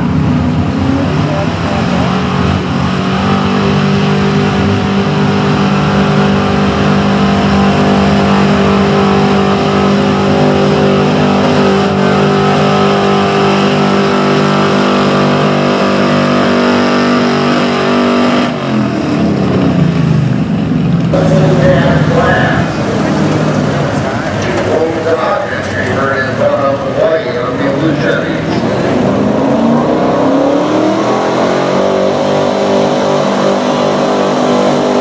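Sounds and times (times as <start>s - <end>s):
truck engine at high revs: 0.0s - 35.0s.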